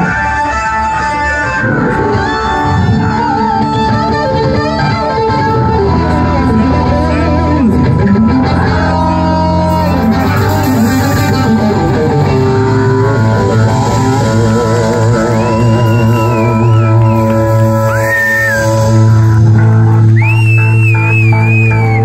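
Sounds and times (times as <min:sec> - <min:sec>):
lead guitar bending notes: 0:00.0 - 0:22.0
live rock band playing: 0:00.0 - 0:22.0.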